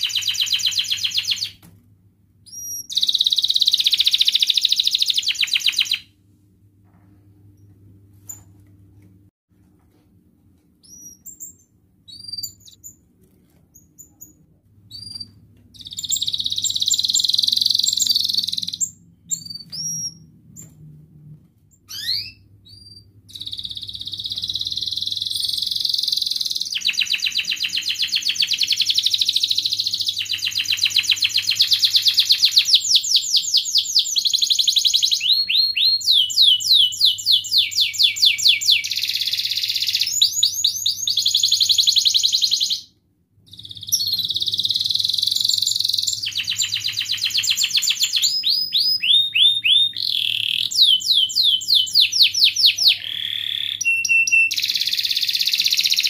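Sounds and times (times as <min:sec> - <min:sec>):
canary singing: 0:00.0 - 0:01.6, 0:02.4 - 0:06.0, 0:10.8 - 0:13.0, 0:13.7 - 0:20.7, 0:21.8 - 0:42.9, 0:43.5 - 0:56.0.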